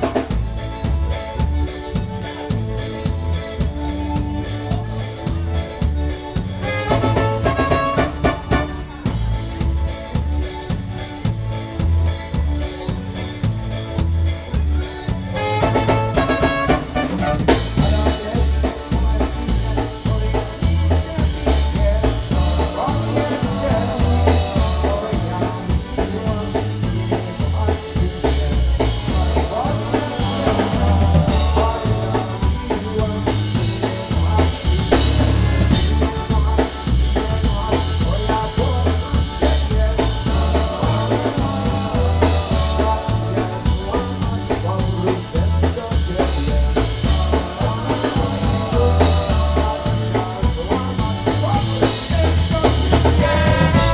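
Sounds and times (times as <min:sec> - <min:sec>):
drum kit: 0:00.0 - 0:53.9
polka band playing: 0:00.0 - 0:53.9.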